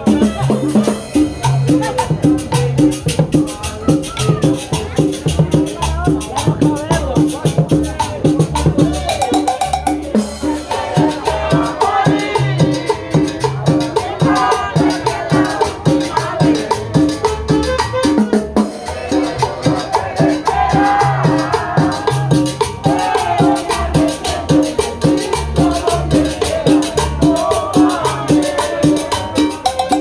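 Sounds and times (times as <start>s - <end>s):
bass line: 0.0s - 30.0s
drums and shaker percussion: 0.0s - 30.0s
latin dance music: 0.0s - 30.0s.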